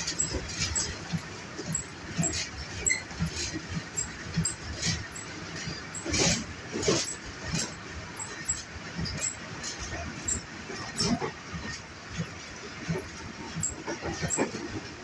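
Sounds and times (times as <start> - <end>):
train coach running rumble: 0.0 - 15.0.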